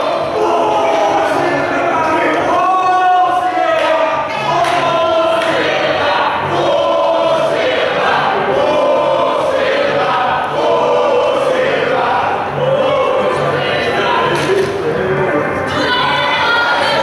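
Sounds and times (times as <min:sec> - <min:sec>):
many voices singing together: 0:00.0 - 0:17.0.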